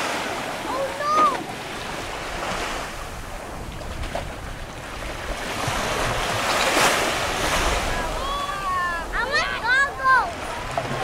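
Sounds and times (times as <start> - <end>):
small waves washing on shore: 0.0 - 11.0
wind rumbling on microphone: 0.3 - 11.0.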